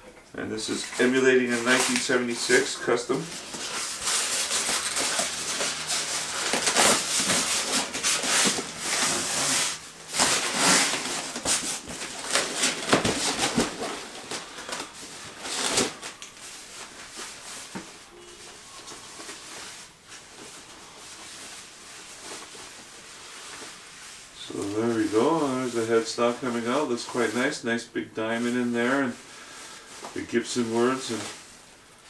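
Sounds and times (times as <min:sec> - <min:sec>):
packing material rustling: 0:00.6 - 0:27.6, 0:28.2 - 0:32.0.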